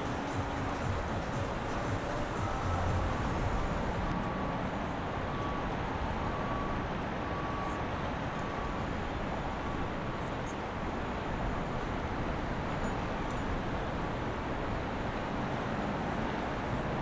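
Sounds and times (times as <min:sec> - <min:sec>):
boat engines rumbling: 0:00.0 - 0:17.0.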